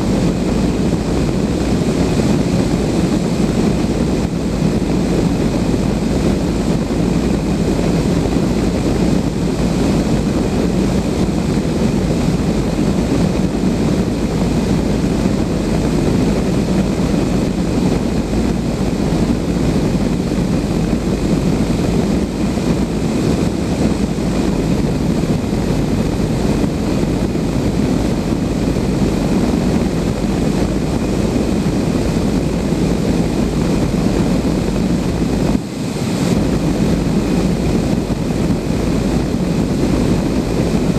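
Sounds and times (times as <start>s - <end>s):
wind rushing on microphone: 0.0s - 40.9s.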